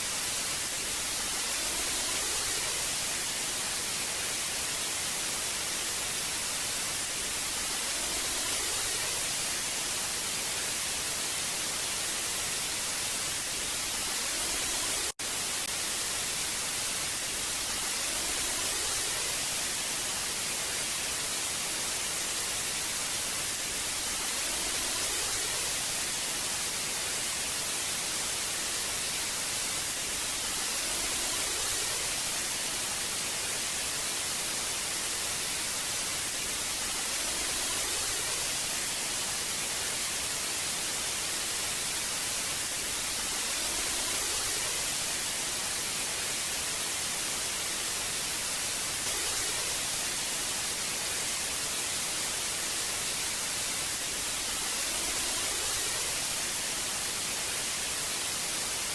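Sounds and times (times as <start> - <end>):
tv static hiss: 0.0 - 58.9.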